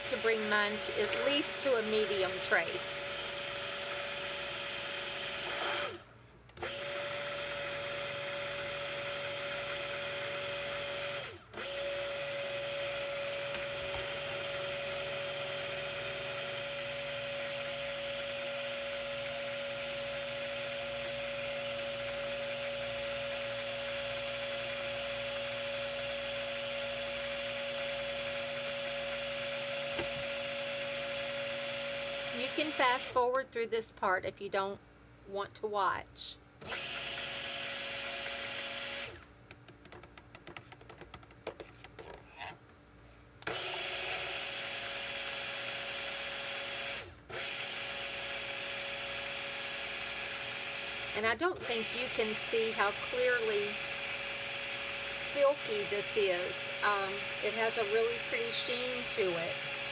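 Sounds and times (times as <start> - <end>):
stick blender running: 0.0 - 33.3, 36.6 - 39.3, 43.4 - 59.9.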